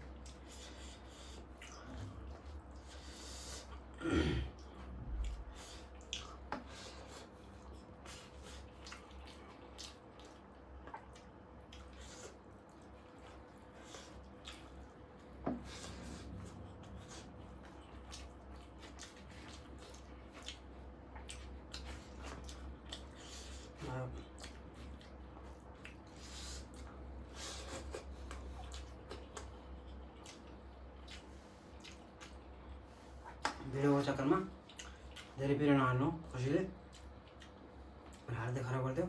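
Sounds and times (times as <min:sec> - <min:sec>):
wet chewing and lip smacking: 0:00.0 - 0:03.9, 0:04.6 - 0:33.6, 0:34.5 - 0:35.4, 0:36.8 - 0:38.3.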